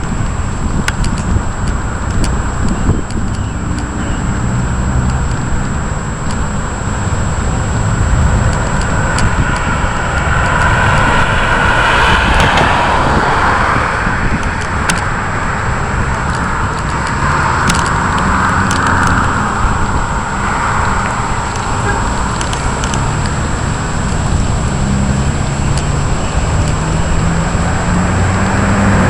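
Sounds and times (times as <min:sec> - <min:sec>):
heavy rushing rain: 0:04.0 - 0:29.0
low thunder rumble: 0:04.2 - 0:29.0.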